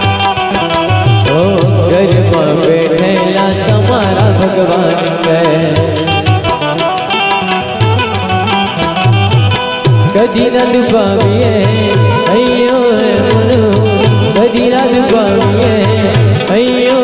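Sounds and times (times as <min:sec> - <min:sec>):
wavering melody: 0:00.0 - 0:16.9
hand drum percussion: 0:00.0 - 0:17.0.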